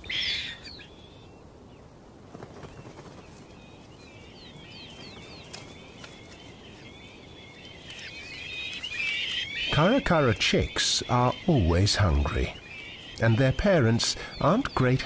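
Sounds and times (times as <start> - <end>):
bird chicks chirping: 0.0 - 15.0.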